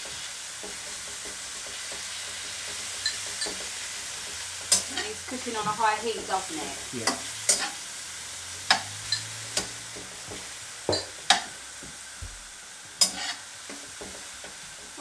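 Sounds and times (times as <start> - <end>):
spatula knocking and scraping pan: 0.0 - 7.8, 8.6 - 15.0
beef sizzling in a wok: 0.0 - 15.0.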